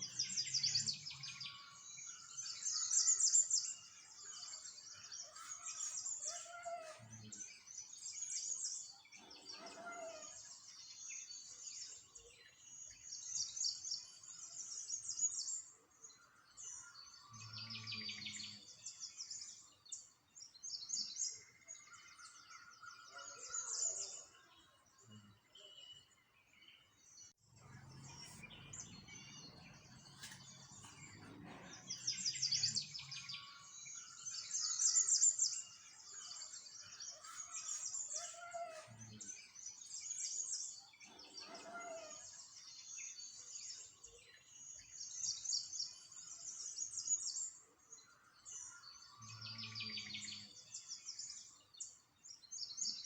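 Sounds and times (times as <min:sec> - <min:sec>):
small birds chirping and trilling: 0:00.0 - 0:53.0.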